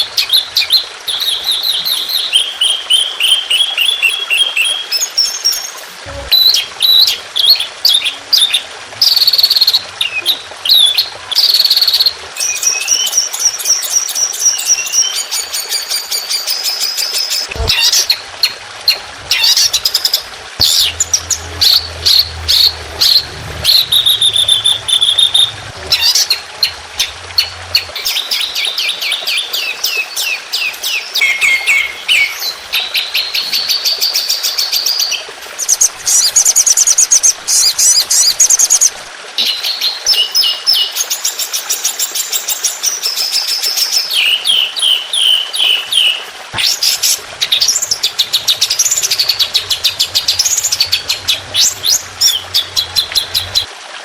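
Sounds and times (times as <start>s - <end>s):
songbird singing: 0.0s - 37.0s, 44.0s - 53.7s.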